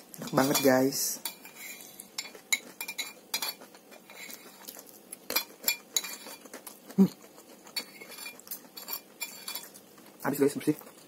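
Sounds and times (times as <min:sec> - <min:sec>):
cutlery scraping on plate: 0:00.2 - 0:09.8.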